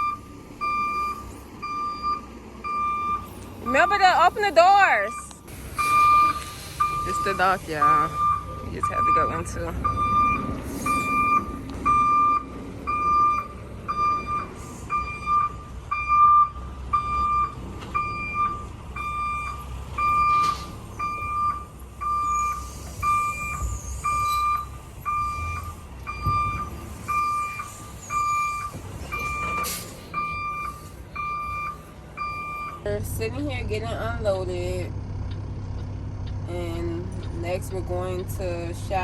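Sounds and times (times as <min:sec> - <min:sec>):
backup alarm beeping: 0:00.0 - 0:32.9
low engine rumble: 0:00.0 - 0:39.0.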